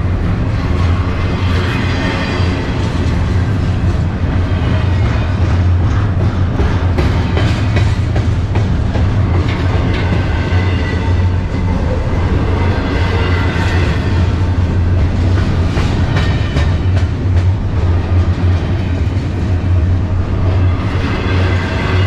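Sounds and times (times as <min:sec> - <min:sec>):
freight train wheel-on-rail noise: 0:00.0 - 0:22.0.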